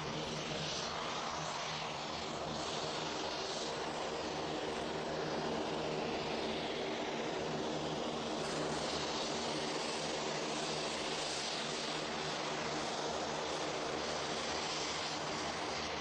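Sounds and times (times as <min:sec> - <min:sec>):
aircraft engines running: 0:00.0 - 0:16.0.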